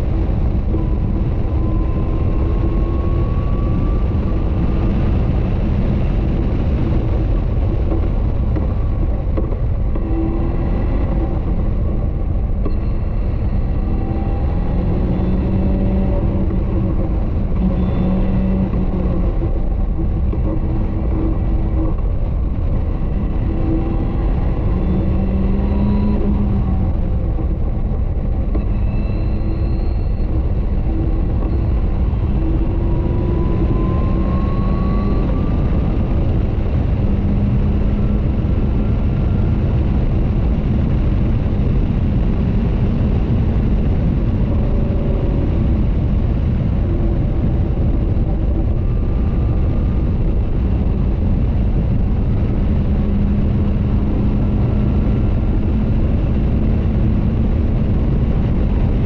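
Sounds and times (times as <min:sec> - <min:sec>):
car engine at speed: 0:00.0 - 0:59.0
wind and road rush: 0:00.0 - 0:59.0.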